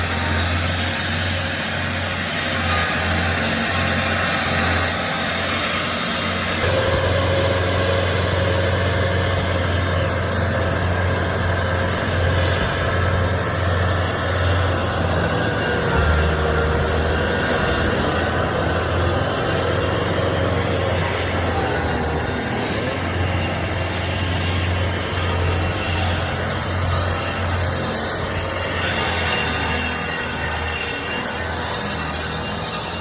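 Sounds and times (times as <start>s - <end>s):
stump grinder running: 0.0s - 33.0s.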